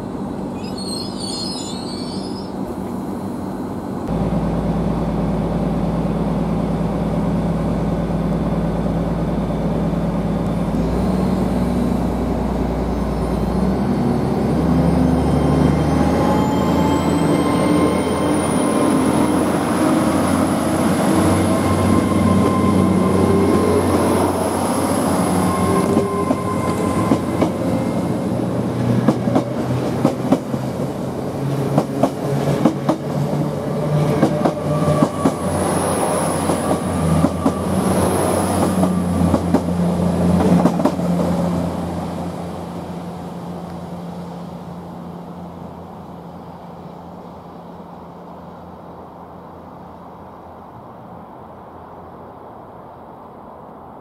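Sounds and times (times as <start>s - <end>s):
train drone with high whine: 0.0s - 54.0s.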